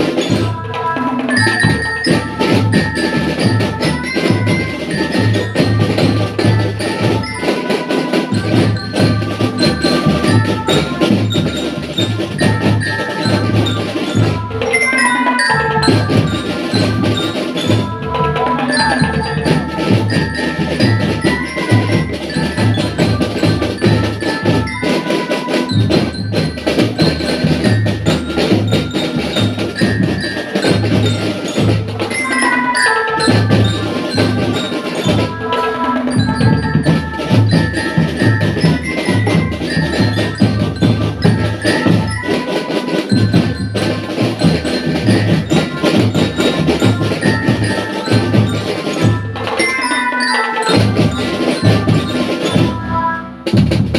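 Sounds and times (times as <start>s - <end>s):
glockenspiel melody: 0.0s - 53.9s
marching drums: 0.0s - 53.9s.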